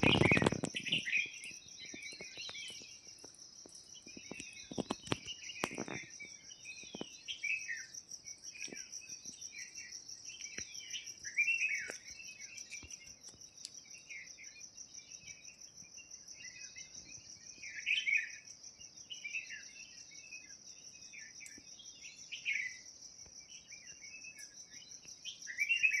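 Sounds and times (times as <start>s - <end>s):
high-pitched insect trill: 0.0s - 26.0s
small birds chirping: 0.0s - 26.0s.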